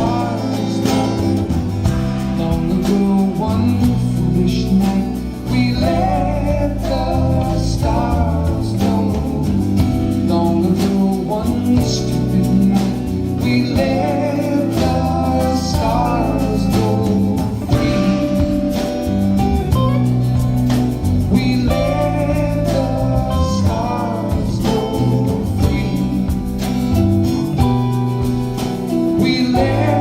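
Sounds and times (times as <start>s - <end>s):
person singing: 0.0s - 20.2s, 21.2s - 27.7s, 28.9s - 30.0s
rock band playing: 0.0s - 30.0s.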